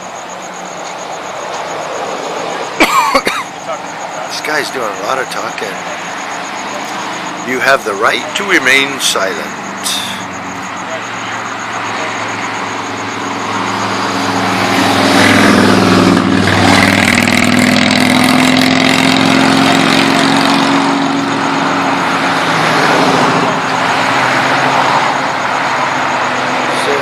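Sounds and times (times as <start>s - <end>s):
vehicle engine running: 3.6s - 27.0s.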